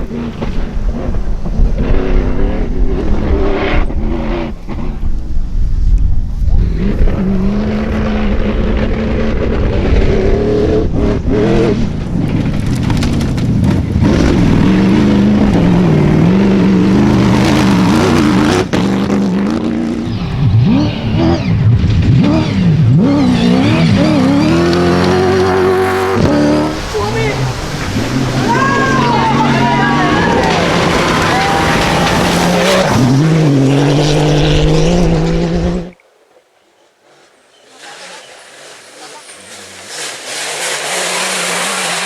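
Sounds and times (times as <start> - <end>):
rally car engines revving: 0.0 - 5.3, 6.4 - 36.0, 37.7 - 42.0
vehicles passing close: 6.5 - 36.0, 37.4 - 42.0.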